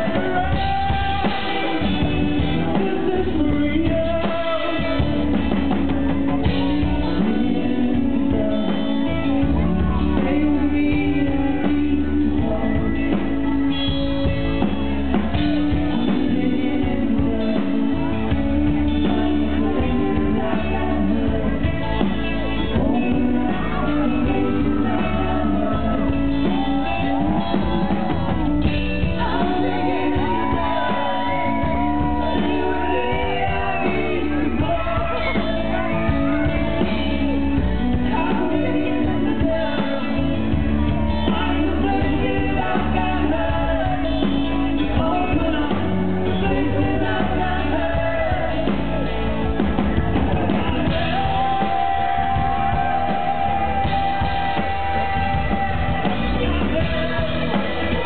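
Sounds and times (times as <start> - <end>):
live rock band playing: 0.0 - 58.0
man singing into a microphone: 0.0 - 58.0.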